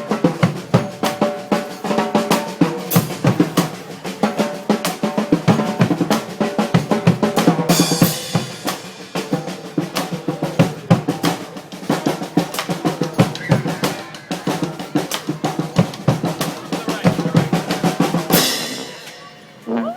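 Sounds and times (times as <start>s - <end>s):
snare and bass drums: 0.0s - 19.0s.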